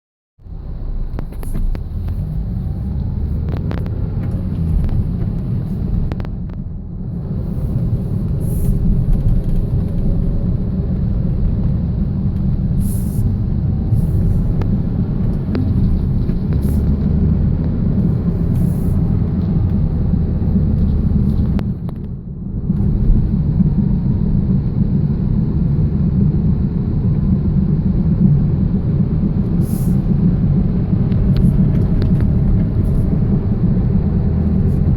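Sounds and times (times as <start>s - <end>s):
car driving with low drone: 0.4s - 34.9s
road rumble: 0.4s - 34.9s.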